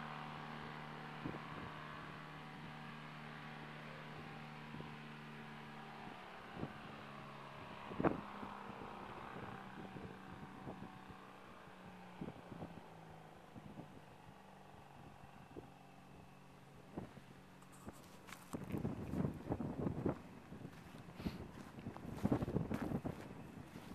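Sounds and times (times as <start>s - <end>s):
distant light aircraft engine drone: 0.0s - 23.9s.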